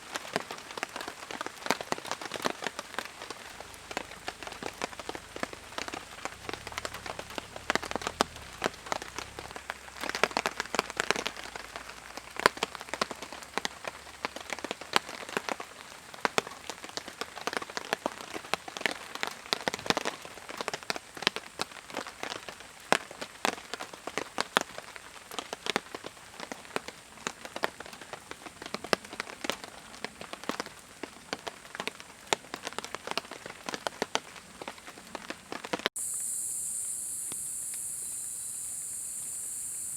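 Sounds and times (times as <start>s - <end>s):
raindrops tapping: 0.0s - 35.9s.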